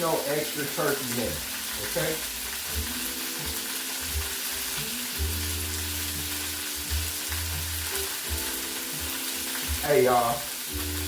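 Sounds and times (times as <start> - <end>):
food sizzling in frying pan: 0.0 - 11.0
music playing: 0.1 - 11.0.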